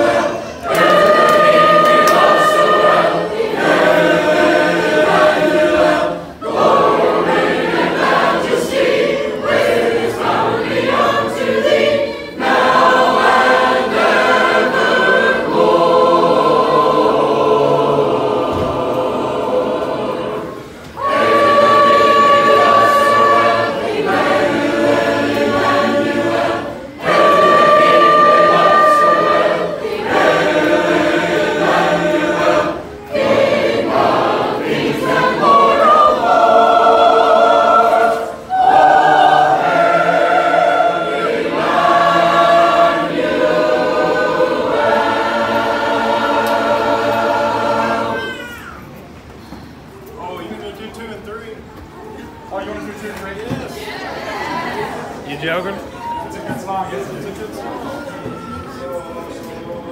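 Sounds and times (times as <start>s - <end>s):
congregation singing a hymn: 0.0s - 51.0s, 52.7s - 59.9s.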